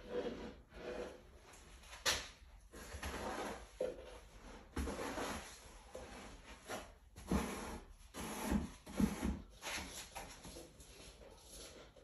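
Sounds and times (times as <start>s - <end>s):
scraping on concrete floor: 0.0s - 12.0s.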